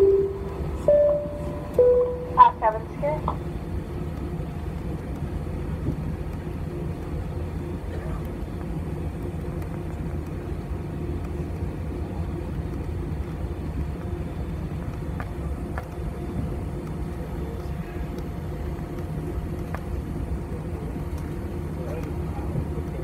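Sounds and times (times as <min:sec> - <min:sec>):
jet engines idling hum: 0:00.0 - 0:23.0.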